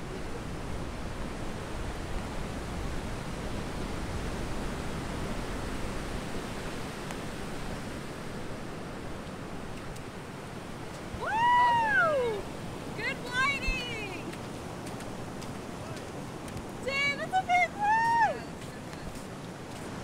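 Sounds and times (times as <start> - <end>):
ocean surf washing ashore: 0.0 - 20.0
wind: 0.0 - 20.0.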